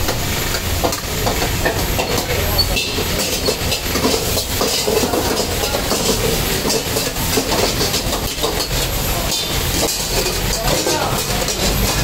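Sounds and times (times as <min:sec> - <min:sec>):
gas flame rushing: 0:00.0 - 0:12.0
meat sizzling in a wok: 0:00.0 - 0:12.0
metal ladle scraping wok: 0:00.0 - 0:12.0.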